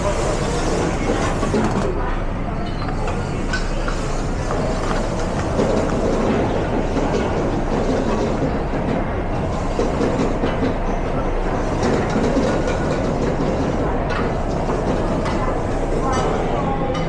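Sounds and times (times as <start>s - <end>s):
clatter of pans and utensils: 2.6s - 17.0s.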